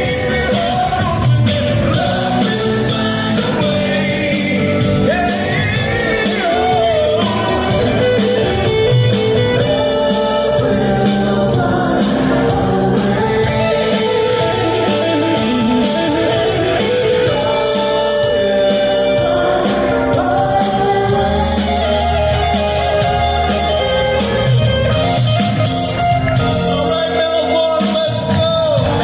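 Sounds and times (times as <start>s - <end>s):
person singing: 0.0s - 25.1s
live rock band playing: 0.0s - 29.0s.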